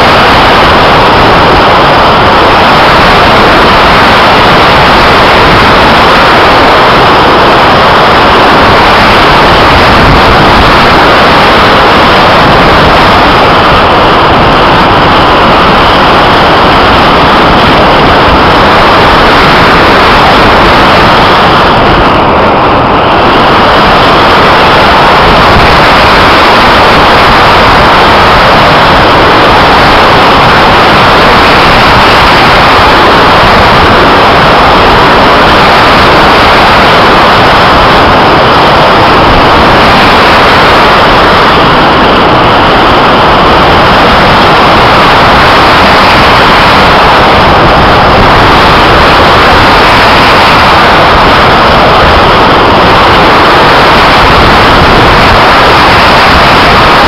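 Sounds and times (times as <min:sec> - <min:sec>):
airflow rushing over microphone: 0:00.0 - 0:57.0.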